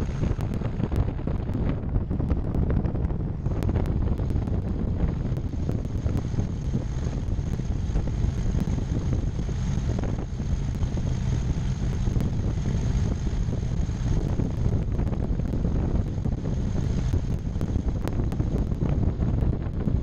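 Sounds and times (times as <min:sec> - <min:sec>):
piston aircraft engines rumbling: 0:00.0 - 0:20.0
wind buffeting microphone: 0:00.0 - 0:20.0.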